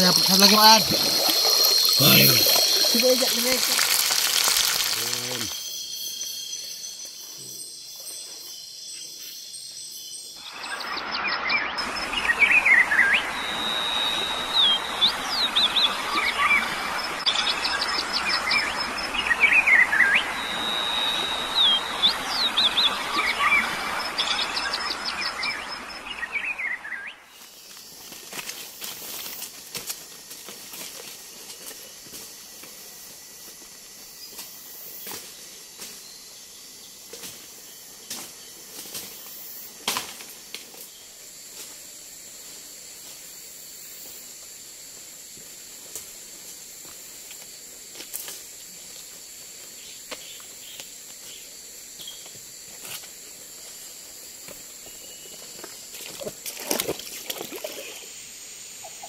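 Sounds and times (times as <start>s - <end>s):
forest insects droning: 0.0s - 59.0s.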